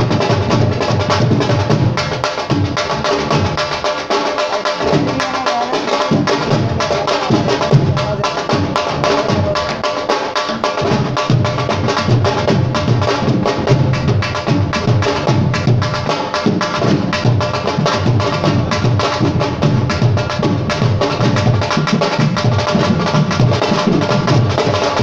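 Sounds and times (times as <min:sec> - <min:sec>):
fast hand-drum playing: 0:00.0 - 0:25.0.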